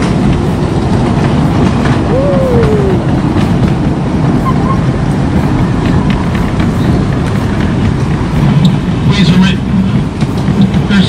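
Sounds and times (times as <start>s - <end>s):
miniature train rumbling: 0.0s - 11.0s
wheel and car clatter: 0.0s - 11.0s.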